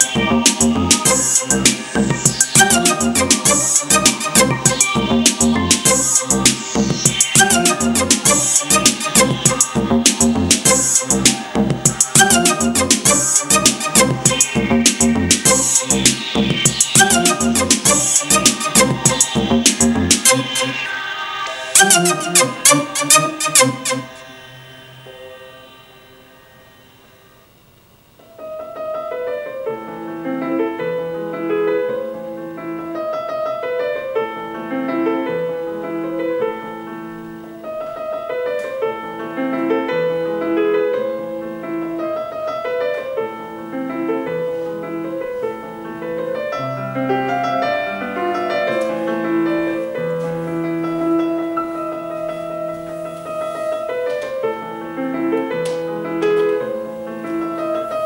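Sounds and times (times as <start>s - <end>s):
piano music through small speaker: 0.0s - 58.0s.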